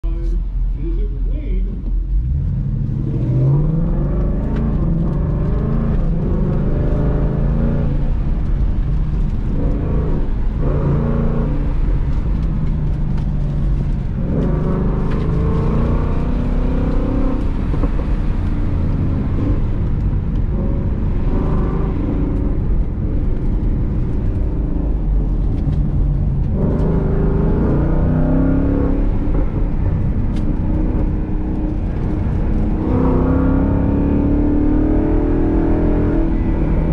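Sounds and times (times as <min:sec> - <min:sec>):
car engine accelerating: 0:00.0 - 0:36.9.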